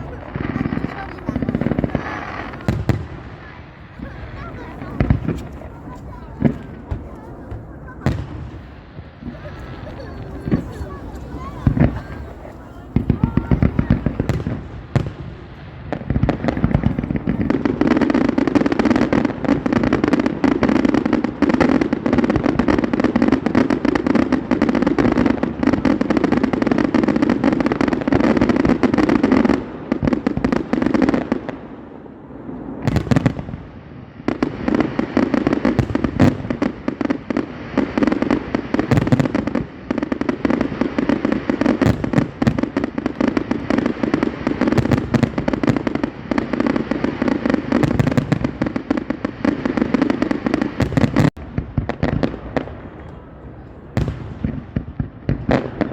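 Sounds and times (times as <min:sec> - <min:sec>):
fireworks popping and crackling: 0:00.0 - 0:55.9.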